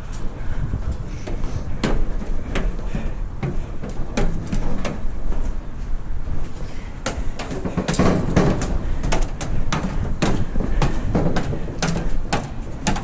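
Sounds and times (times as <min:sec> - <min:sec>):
steady low rumble: 0:00.0 - 0:13.0
footsteps knocking: 0:00.9 - 0:05.6, 0:07.0 - 0:13.0.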